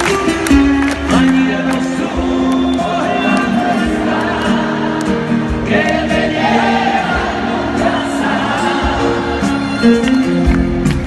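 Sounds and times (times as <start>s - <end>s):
live pop-rock band with singing: 0.0s - 11.0s.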